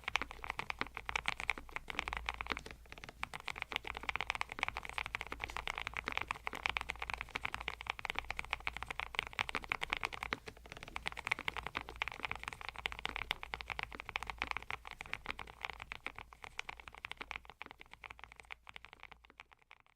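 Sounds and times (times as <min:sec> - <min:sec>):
mechanical keyboard typing: 0:00.0 - 0:19.9.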